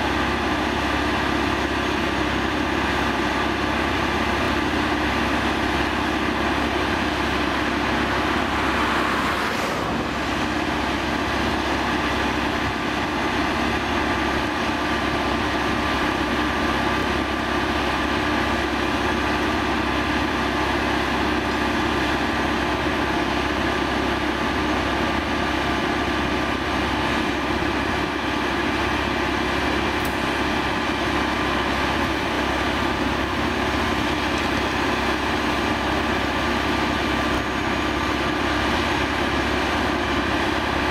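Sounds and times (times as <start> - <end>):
machine engine humming: 0.0 - 40.9.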